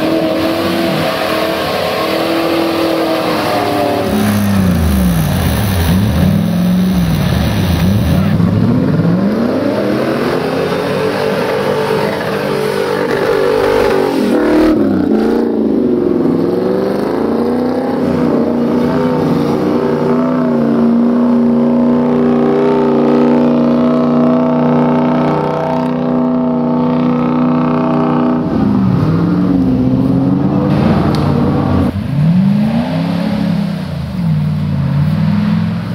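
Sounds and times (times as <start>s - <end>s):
buggy engine revving: 0.0s - 35.9s.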